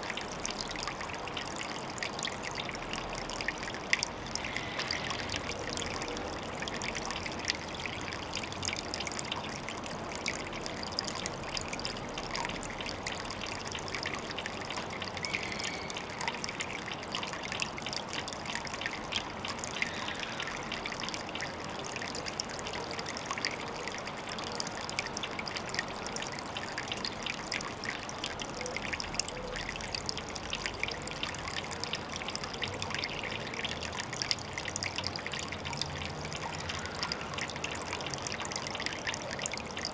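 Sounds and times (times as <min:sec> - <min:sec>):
tiny splashes and drips: 0:00.0 - 0:39.9
water trickling into a pond: 0:00.0 - 0:39.9.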